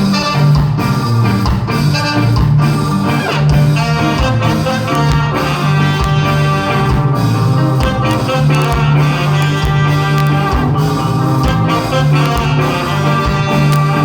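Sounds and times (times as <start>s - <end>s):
horn lines: 0.0s - 14.0s
live ska band playing: 0.0s - 14.0s.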